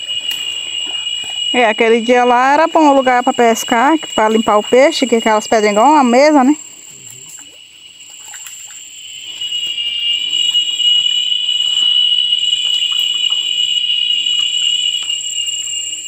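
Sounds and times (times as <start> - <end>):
faint higher steady tone: 0.0 - 16.0
insect shrill call: 0.0 - 16.0.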